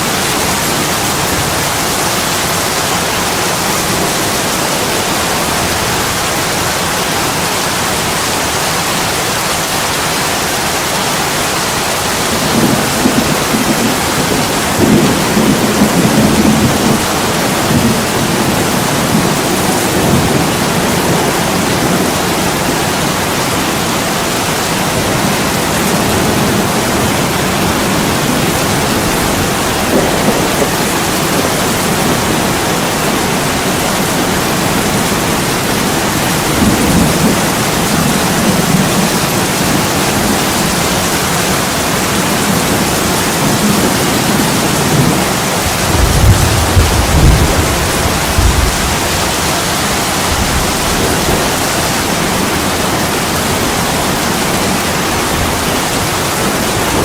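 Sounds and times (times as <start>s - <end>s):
heavy rain pouring: 0.0s - 57.0s
thunder rumbling: 10.6s - 57.0s.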